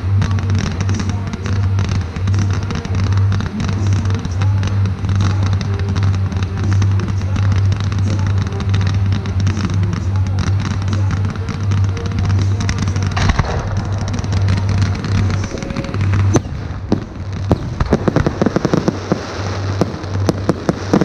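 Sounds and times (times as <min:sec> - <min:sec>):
firework bangs and crackles: 0:00.0 - 0:21.0
music: 0:00.0 - 0:21.0.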